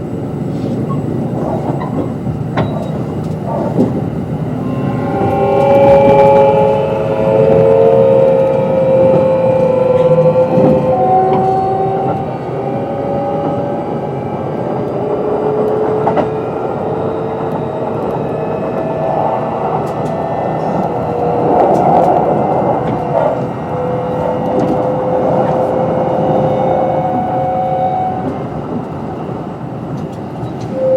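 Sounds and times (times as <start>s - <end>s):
electric train inverter whine: 0.0s - 30.9s
rumble of wheels on track: 0.0s - 30.9s.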